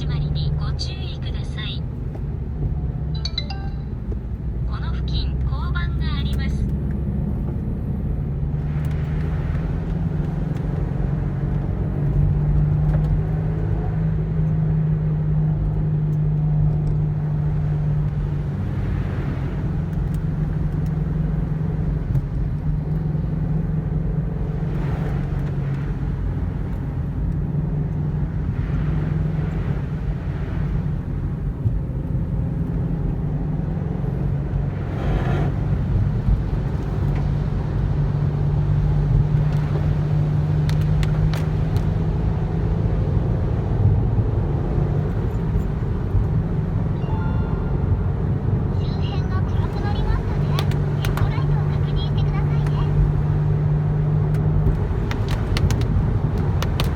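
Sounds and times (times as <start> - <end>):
car engine humming: 0.0 - 56.9
tyre and road noise: 0.0 - 56.9.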